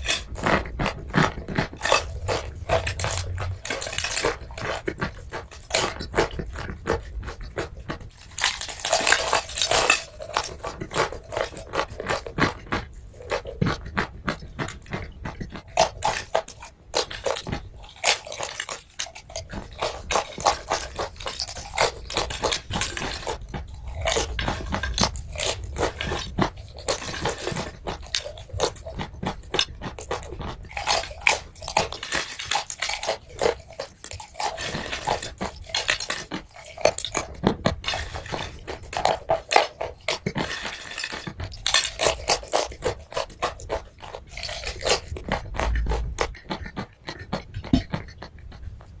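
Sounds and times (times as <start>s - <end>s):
brittle crunching and crackling: 0.0s - 49.0s.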